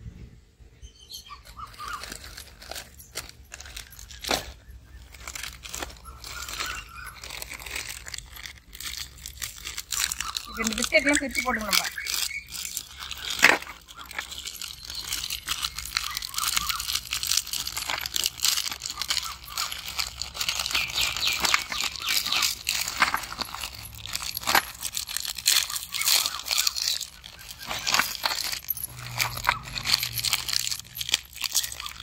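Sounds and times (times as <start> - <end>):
plastic wrappers crinkling and tearing: 1.5 - 32.0.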